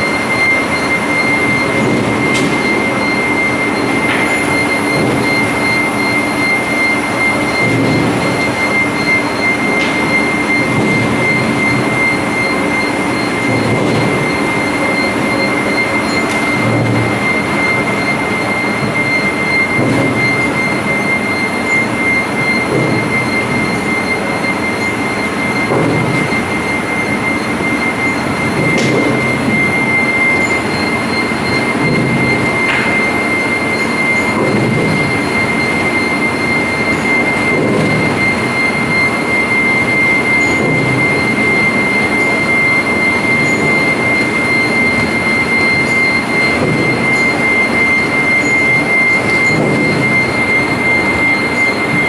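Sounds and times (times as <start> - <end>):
conveyor machinery noise: 0.0 - 52.0
high-pitched whine: 0.0 - 52.0.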